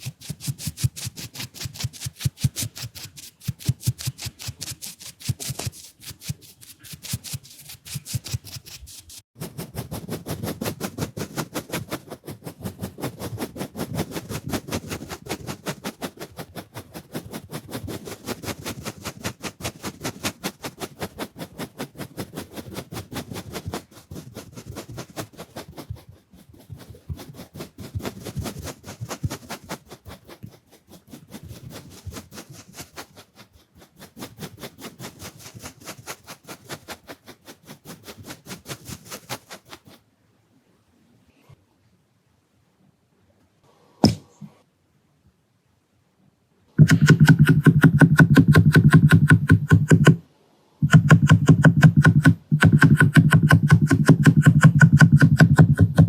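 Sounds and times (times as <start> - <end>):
brush scratching against lens: 0.0 - 40.1, 46.8 - 50.2, 50.8 - 56.0.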